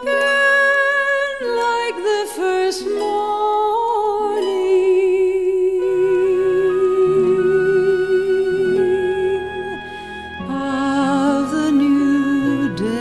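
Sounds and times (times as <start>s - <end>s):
slow sung melody with vibrato: 0.0s - 13.0s.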